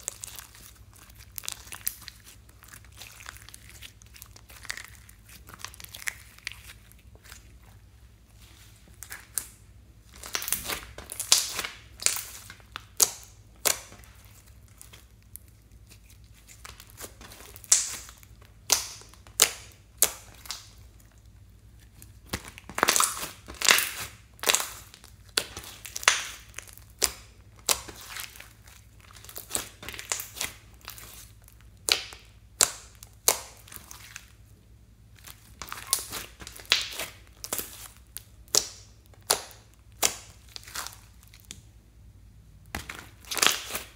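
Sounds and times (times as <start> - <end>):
slime popping and squelching: 0.0 - 34.4, 35.1 - 41.6, 42.7 - 43.9.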